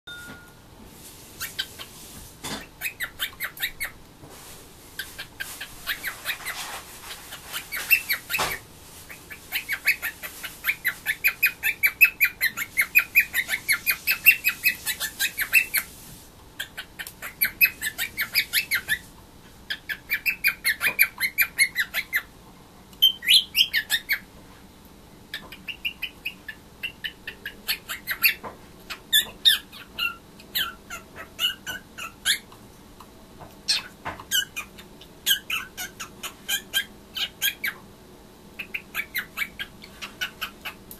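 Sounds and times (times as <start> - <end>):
cockatiel chirping: 1.4 - 1.9, 2.5 - 4.0, 5.0 - 16.0, 16.6 - 19.1, 19.7 - 22.3, 23.0 - 24.2, 25.3 - 32.5, 33.7 - 37.8, 38.6 - 40.8.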